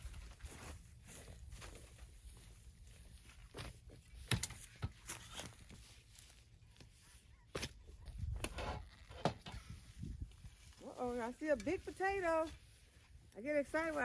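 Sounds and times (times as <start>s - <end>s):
digging strikes and scrapes in soil: 0.0s - 13.2s.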